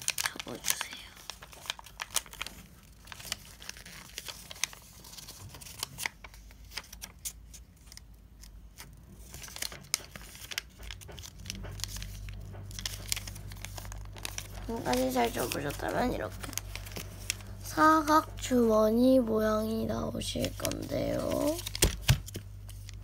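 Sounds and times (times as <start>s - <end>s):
paper being folded and creased: 0.0s - 23.0s.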